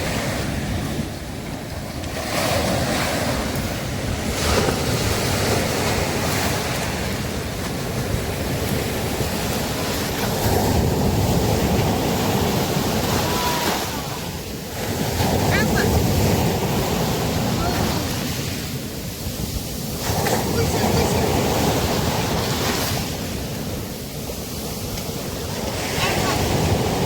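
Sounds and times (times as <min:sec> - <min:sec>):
sea waves breaking on beach: 0:00.0 - 0:27.0.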